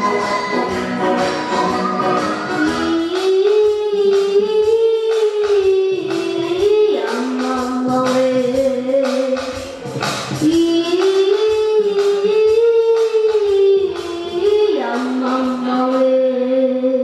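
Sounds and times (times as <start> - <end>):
musical accompaniment: 0.0 - 16.5.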